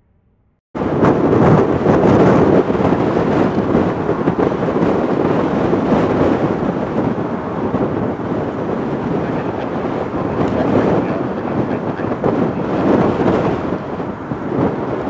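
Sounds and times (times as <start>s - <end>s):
light aircraft droning overhead: 0.8s - 15.0s.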